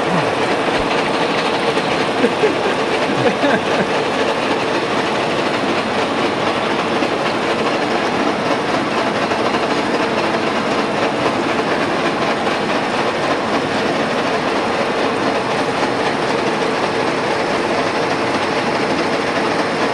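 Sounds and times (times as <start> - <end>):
cutter milling plastic: 0.0 - 19.9
milling machine running: 0.0 - 19.9.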